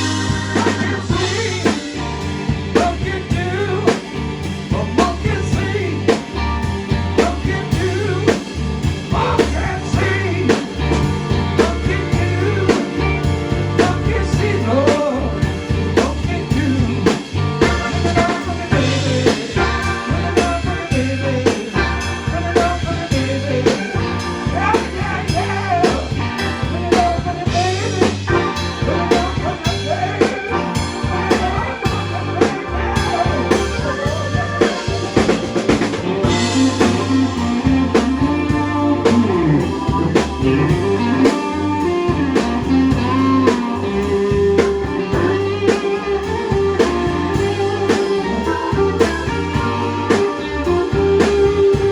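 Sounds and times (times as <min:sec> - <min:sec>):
bass guitar: 0:00.0 - 0:51.9
drum kit beat: 0:00.0 - 0:51.9
electric guitar bending notes: 0:00.0 - 0:51.9.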